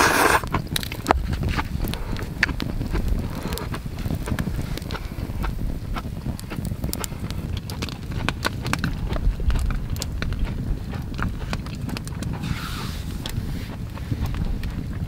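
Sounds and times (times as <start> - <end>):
campfire crackling and popping: 0.0 - 15.0
wind rumble on microphone: 0.0 - 15.0.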